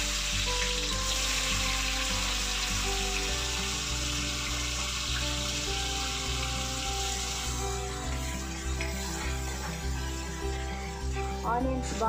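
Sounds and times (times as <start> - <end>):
background music with bass line: 0.0 - 12.0
onions sizzling in hot oil: 0.0 - 12.0.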